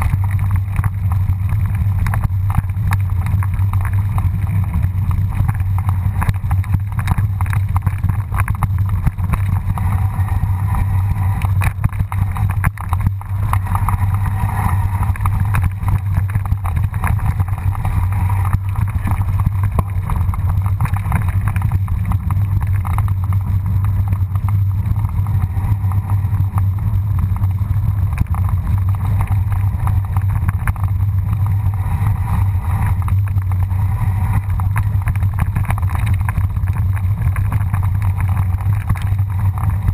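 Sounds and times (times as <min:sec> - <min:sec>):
bike rolling over gravel trail: 0:00.0 - 0:39.9.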